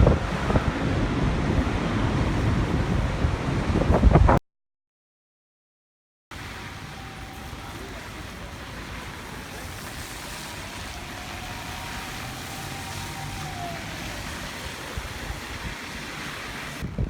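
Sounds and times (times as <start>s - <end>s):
wavering wind whistle: 0.0s - 4.2s, 6.4s - 17.0s
wind roaring: 0.0s - 4.4s, 6.3s - 17.0s.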